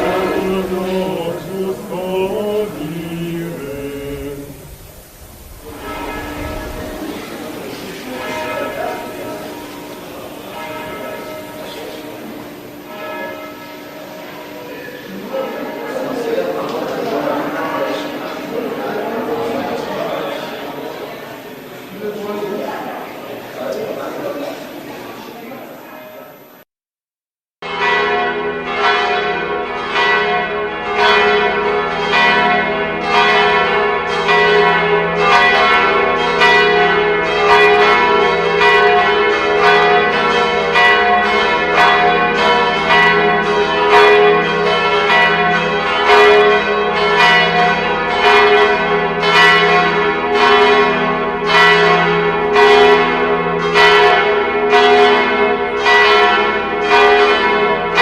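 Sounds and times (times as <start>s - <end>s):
church bells pealing: 0.0s - 26.6s, 27.6s - 58.0s.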